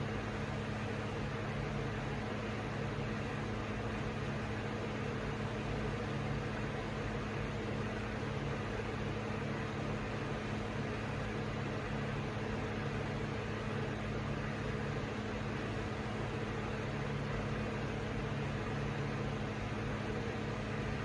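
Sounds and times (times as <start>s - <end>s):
ceiling fan running: 0.0s - 21.0s.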